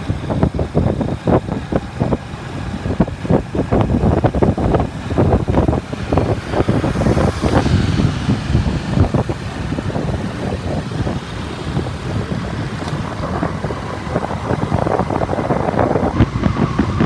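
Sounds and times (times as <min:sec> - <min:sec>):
motorbike engine: 0:00.0 - 0:17.0
wind buffeting microphone: 0:00.0 - 0:17.0.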